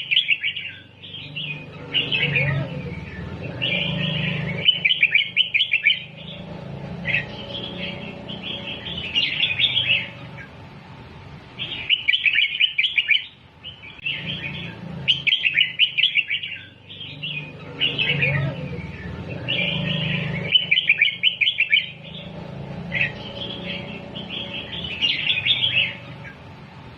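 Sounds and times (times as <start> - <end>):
bird singing clipped phrases: 0.0 - 10.6, 11.5 - 26.5.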